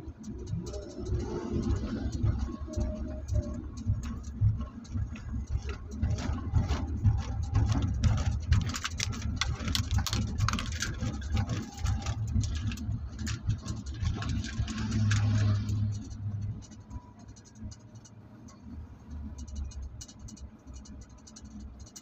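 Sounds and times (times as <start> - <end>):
interior clicks and rattles: 0.0 - 22.0
road and engine rumble: 0.0 - 22.0.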